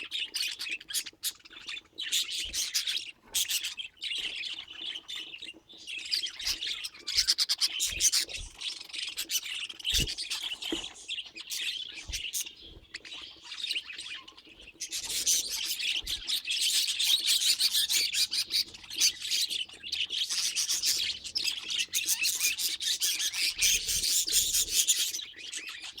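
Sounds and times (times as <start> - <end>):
budgerigars chattering and chirping: 0.0 - 26.0.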